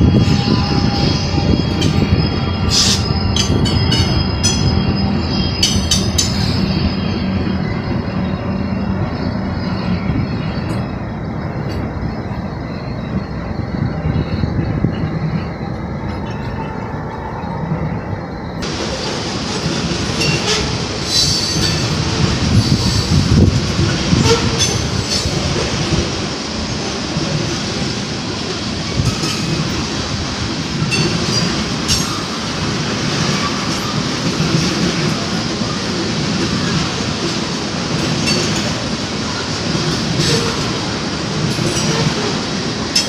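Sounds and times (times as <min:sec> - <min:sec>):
diesel locomotive passing: 0:00.0 - 0:43.0
train cars clanking: 0:00.0 - 0:43.0
train wheels rumbling on rails: 0:00.0 - 0:43.0.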